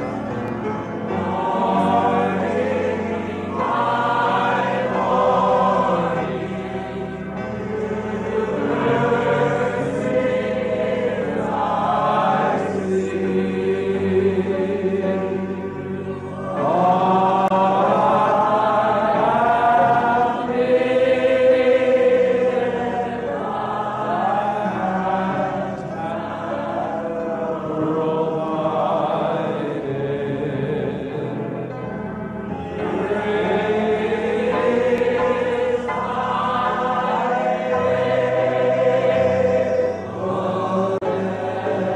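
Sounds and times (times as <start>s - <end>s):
congregation singing: 0.0s - 41.9s.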